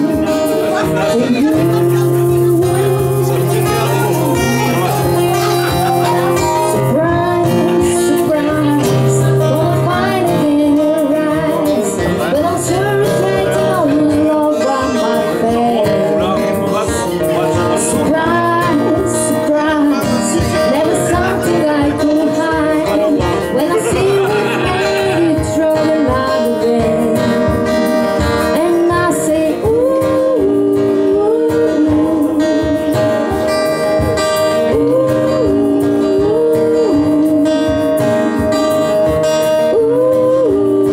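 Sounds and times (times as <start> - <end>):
woman singing: 0.0 - 16.5, 17.5 - 40.9
strummed acoustic guitar: 0.0 - 40.9.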